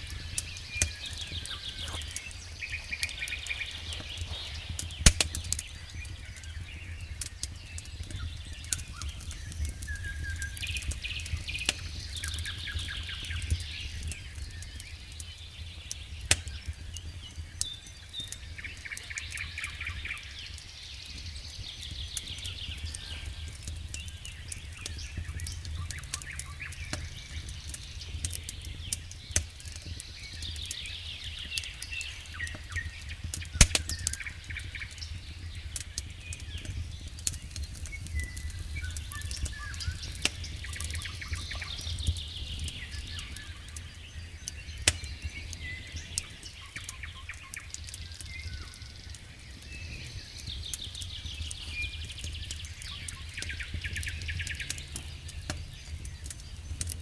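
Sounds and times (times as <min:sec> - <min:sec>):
campfire crackling and popping: 0:00.0 - 0:57.0
small birds chirping and trilling: 0:00.0 - 0:57.0.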